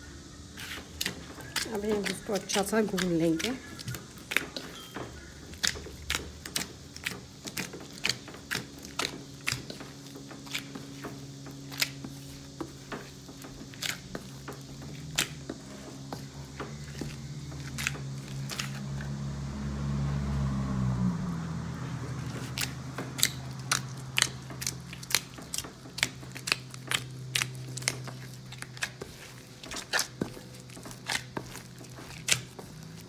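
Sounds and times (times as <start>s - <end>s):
hand kneading dough in steel bowl: 0.6s - 19.2s, 21.7s - 33.0s.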